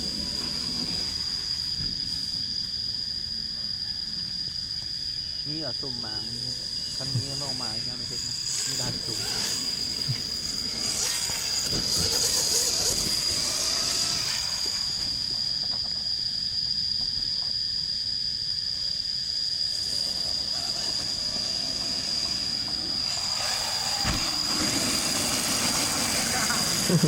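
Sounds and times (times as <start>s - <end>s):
electric motorbike motor whine: 0.0s - 3.2s, 4.0s - 27.0s.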